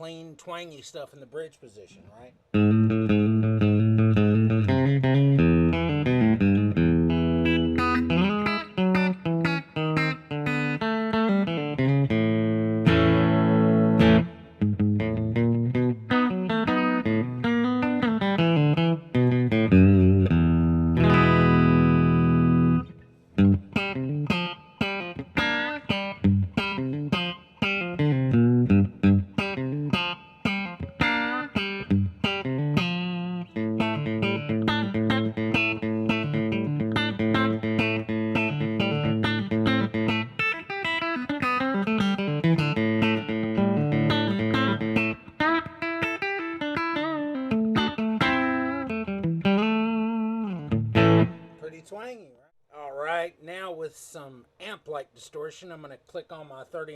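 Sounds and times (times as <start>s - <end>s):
clean electric guitar picking: 2.5s - 51.6s.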